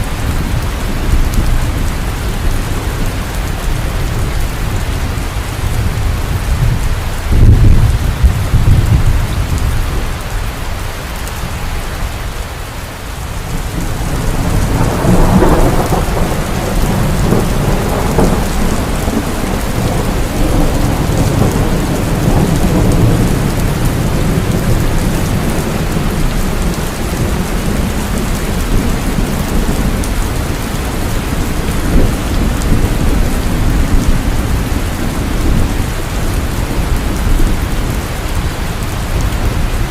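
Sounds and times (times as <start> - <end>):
thunder rumbling: 0.0 - 10.9, 13.2 - 39.9
heavy rain falling: 0.0 - 39.9.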